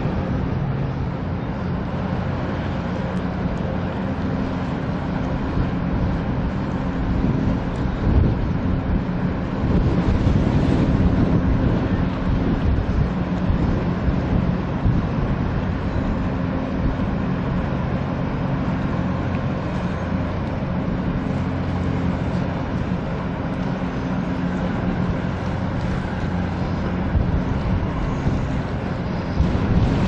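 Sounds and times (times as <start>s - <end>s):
wind noise: 0.0s - 2.8s, 5.0s - 30.0s
ferry engines humming: 0.0s - 30.0s
water noise: 0.0s - 30.0s.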